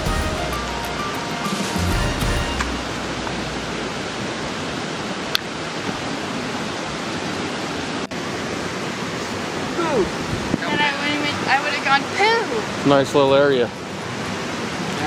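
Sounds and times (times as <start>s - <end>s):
mountain creek rushing: 0.0s - 15.0s.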